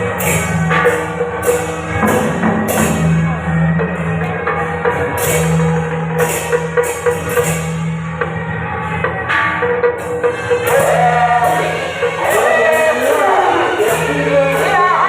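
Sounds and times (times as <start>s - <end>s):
cymbal crashes: 0.0s - 8.3s, 9.3s - 15.0s
drums: 0.0s - 15.0s.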